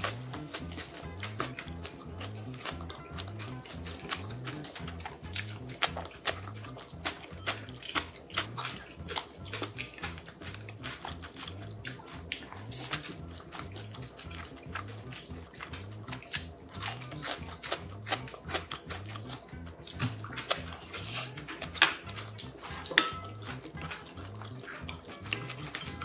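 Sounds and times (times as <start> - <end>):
background music with low beat: 0.0 - 26.0
chopsticks clicking on bowls: 0.0 - 26.0
person chewing and biting: 0.0 - 26.0.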